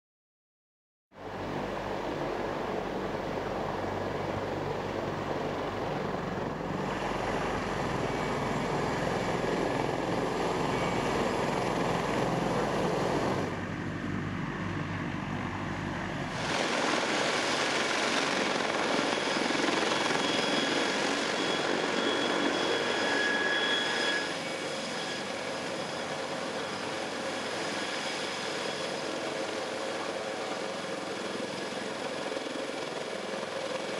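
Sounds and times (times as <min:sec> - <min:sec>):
helicopter rotors turning: 0:01.2 - 0:33.9
high turbine whine: 0:01.2 - 0:33.9.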